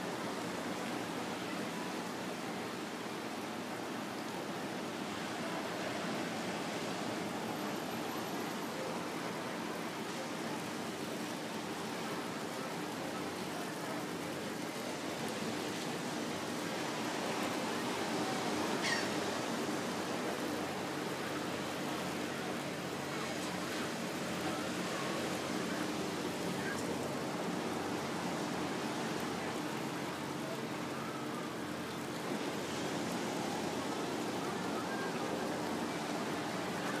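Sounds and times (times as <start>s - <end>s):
surf: 0.0s - 37.0s.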